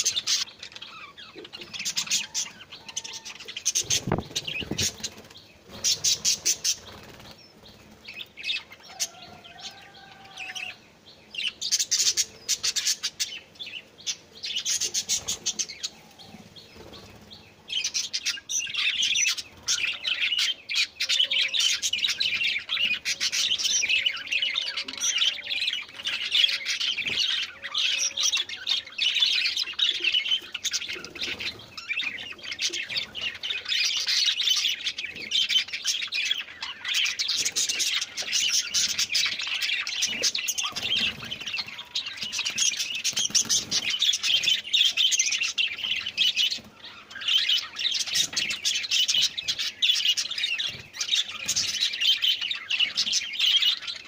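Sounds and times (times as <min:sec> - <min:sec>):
small birds chirping and chattering: 0:00.0 - 0:54.0.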